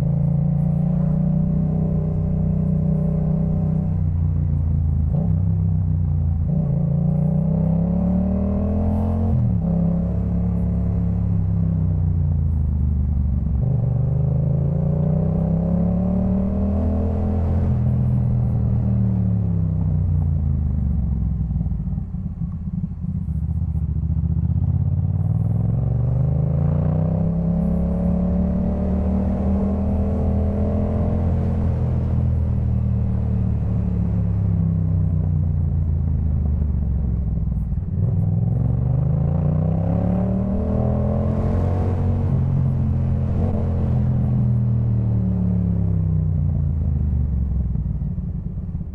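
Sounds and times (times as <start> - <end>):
motorcycle engine revving: 0.0 - 11.9, 13.4 - 48.9.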